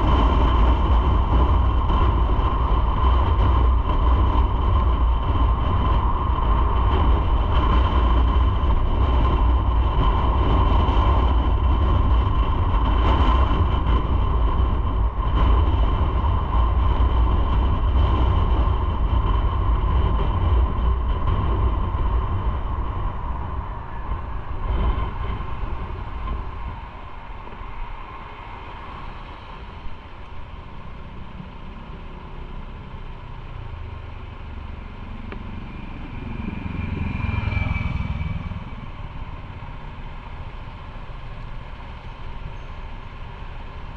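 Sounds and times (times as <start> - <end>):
constant whine: 0.0 - 43.9
motorcycle engine rumble: 0.0 - 43.9
wind buffeting microphone: 0.0 - 43.9.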